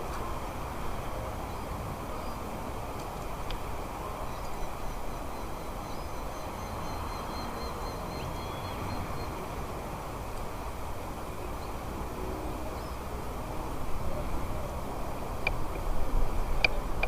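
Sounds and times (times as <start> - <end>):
outdoor background rush: 0.0 - 17.0.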